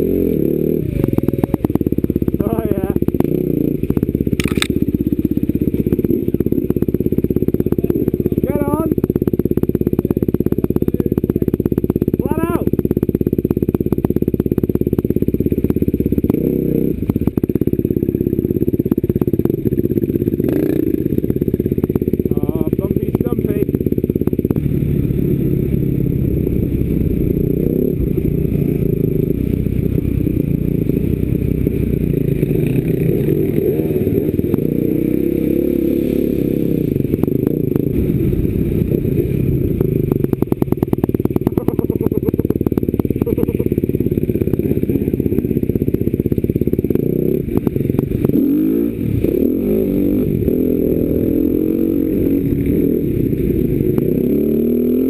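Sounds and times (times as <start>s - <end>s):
motorcycle engine revving: 0.0s - 55.0s
motorcycle rattling over rough ground: 0.0s - 55.0s.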